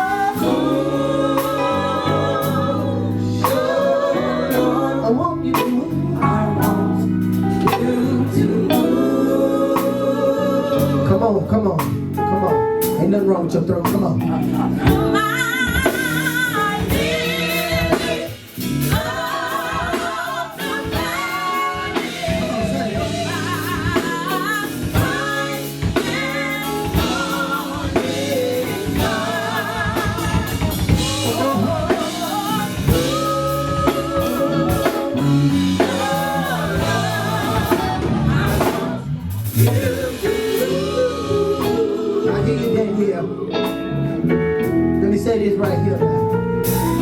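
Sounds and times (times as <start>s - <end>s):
band with drums bass guitar: 0.0s - 47.0s.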